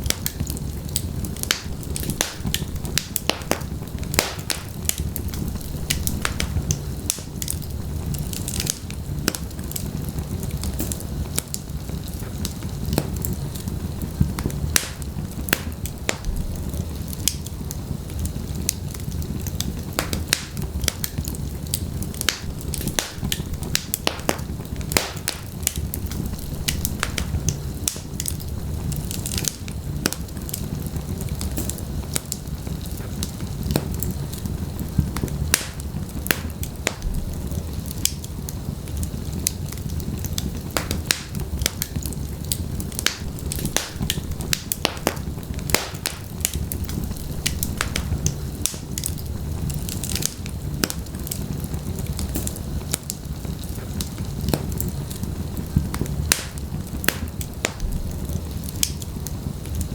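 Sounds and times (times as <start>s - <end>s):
wood fire crackling in fireplace: 0.0s - 59.9s.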